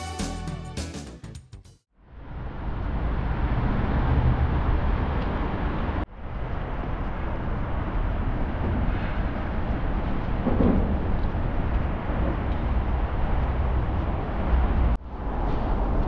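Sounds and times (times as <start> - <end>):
road traffic rumble: 2.0 - 16.0.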